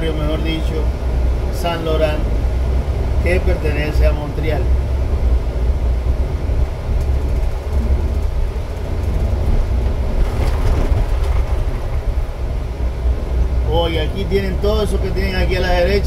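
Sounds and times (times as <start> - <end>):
vehicle interior road rumble: 0.0 - 16.0.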